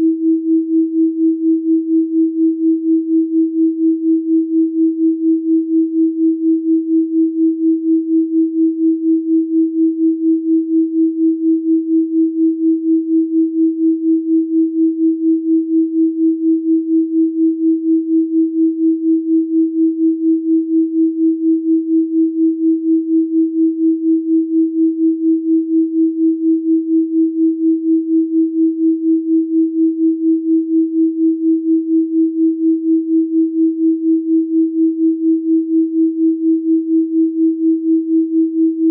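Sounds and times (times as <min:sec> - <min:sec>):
pulsing electronic sine tone: 0:00.0 - 0:38.9.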